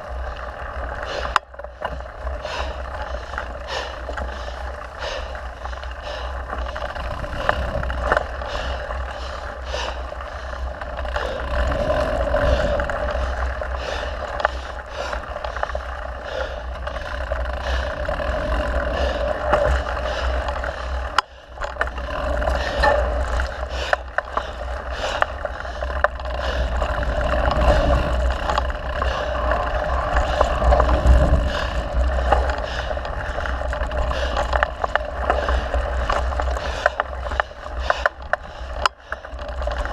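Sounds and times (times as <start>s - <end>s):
bike clicks and rattles: 0.0s - 39.9s
bike tyre noise: 0.0s - 39.9s
wind rumbling on microphone: 0.0s - 39.9s.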